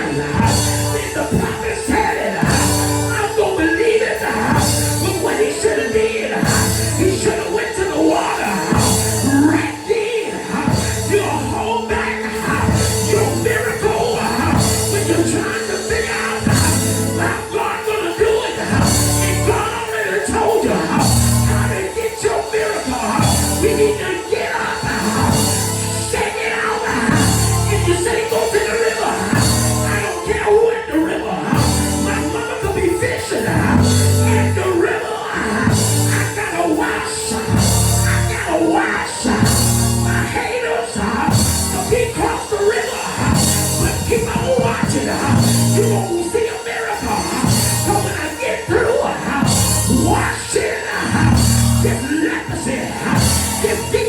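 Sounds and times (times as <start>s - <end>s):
drums and bass beat: 0.0s - 9.9s, 10.5s - 30.5s, 31.5s - 54.0s
live band music: 0.0s - 54.0s
person singing: 0.0s - 54.0s.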